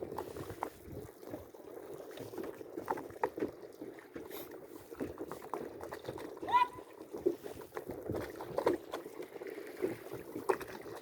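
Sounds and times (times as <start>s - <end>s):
boat engine rumble and wash: 0.0s - 11.0s.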